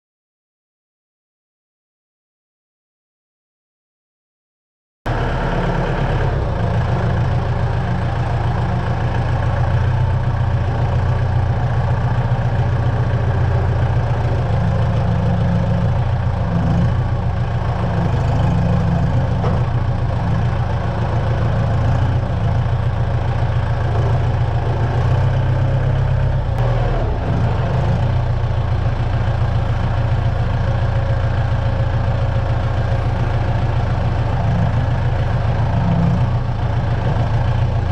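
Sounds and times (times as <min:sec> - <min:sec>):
engine idling: 0:05.1 - 0:37.9.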